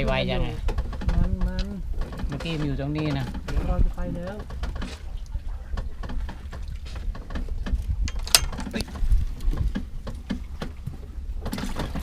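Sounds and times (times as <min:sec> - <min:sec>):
steady low rumble: 0:00.0 - 0:11.4
fishing gear clicks and knocks: 0:00.6 - 0:03.6, 0:04.2 - 0:12.0.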